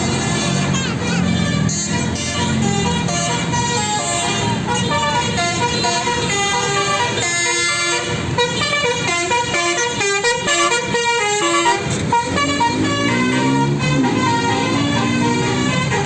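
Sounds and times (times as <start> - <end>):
bus horn playing melody: 0.0 - 16.0.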